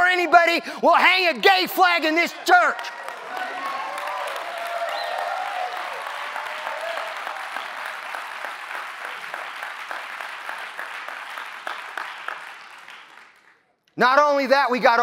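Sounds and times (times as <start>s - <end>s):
congregation applauding: 1.2s - 13.8s.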